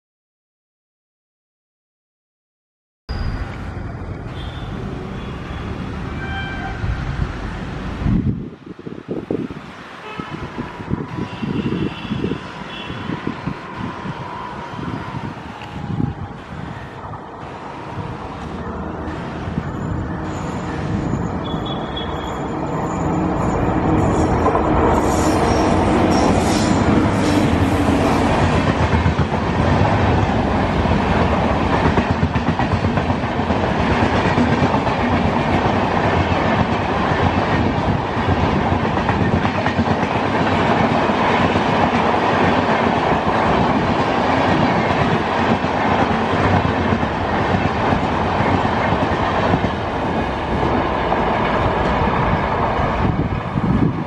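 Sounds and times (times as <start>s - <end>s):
train passing at speed: 3.1s - 54.0s.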